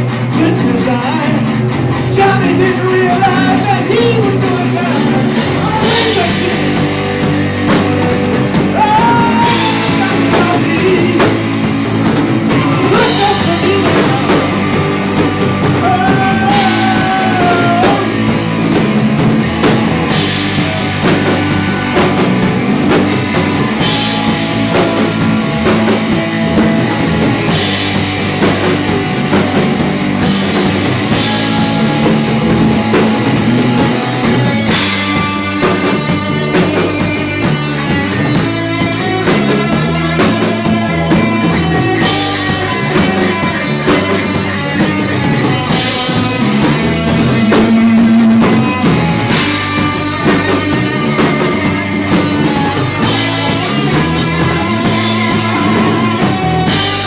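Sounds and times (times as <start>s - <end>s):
drum kit: 0.0s - 57.0s
guitar lead with bent notes: 0.0s - 57.0s.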